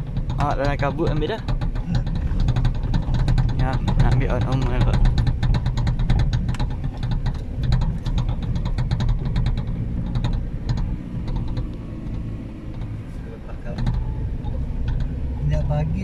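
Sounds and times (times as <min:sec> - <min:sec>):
sharp clicks and knocks: 0:00.0 - 0:16.0
vehicle engine and road rumble: 0:00.0 - 0:16.0.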